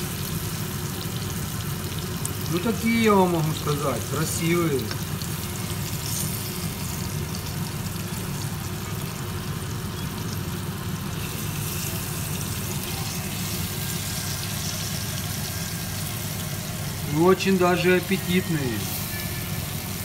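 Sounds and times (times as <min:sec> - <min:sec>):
tomato slices frying in oil: 0:00.0 - 0:20.0.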